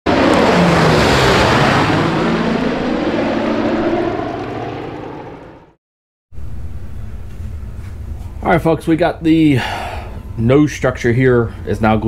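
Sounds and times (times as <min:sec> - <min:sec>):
propeller aircraft engines droning: 0:00.1 - 0:05.8, 0:06.4 - 0:12.0.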